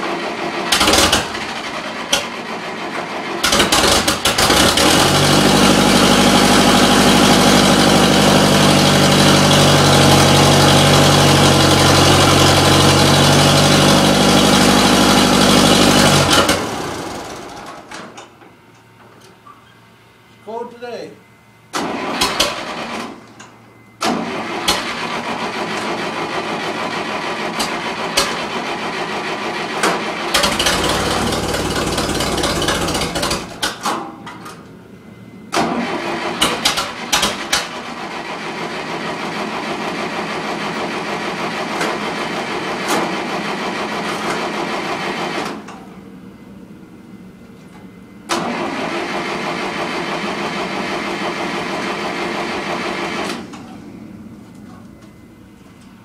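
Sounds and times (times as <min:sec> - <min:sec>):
tractor engine cranking: 0:00.0 - 0:18.3, 0:21.8 - 0:34.6, 0:35.5 - 0:45.8, 0:48.3 - 0:53.8.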